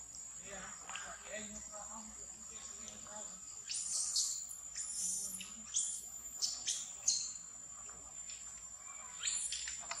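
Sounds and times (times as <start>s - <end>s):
steady high-pitched whine: 0.0s - 10.0s.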